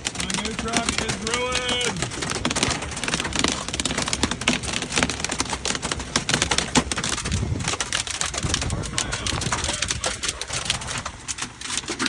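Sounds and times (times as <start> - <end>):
hailstones striking hard surfaces: 0.0 - 12.0.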